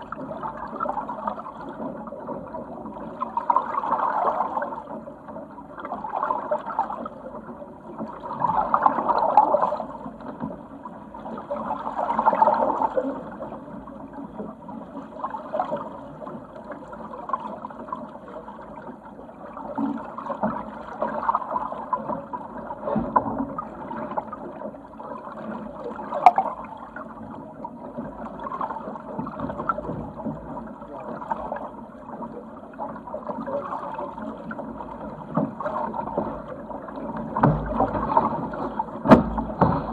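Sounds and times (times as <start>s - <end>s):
water rushing along a hull: 0.0s - 39.9s.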